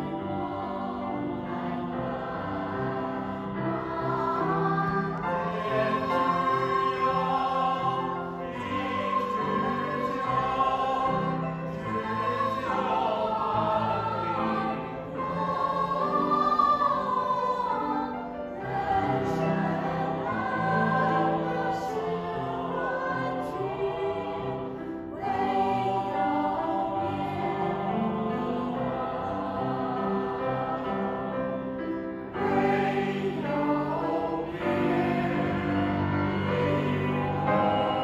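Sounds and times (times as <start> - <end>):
mixed choir singing: 0.0 - 38.0.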